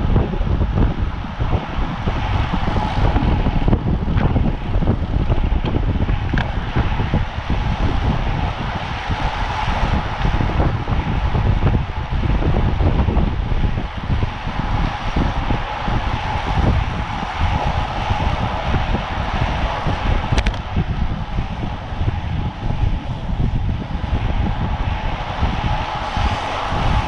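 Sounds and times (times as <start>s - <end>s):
bicycle road rumble: 0.0s - 27.0s
wind buffeting microphone: 0.0s - 27.0s.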